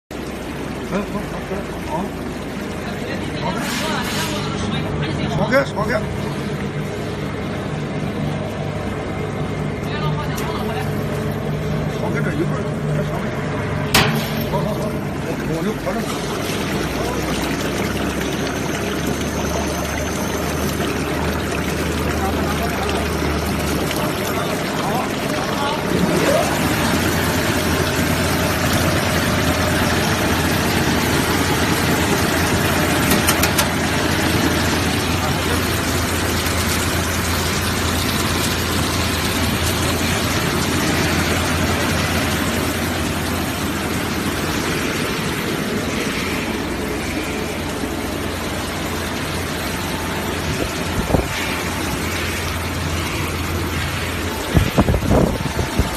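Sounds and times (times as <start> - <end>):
low motor hum: 4.4 - 55.9.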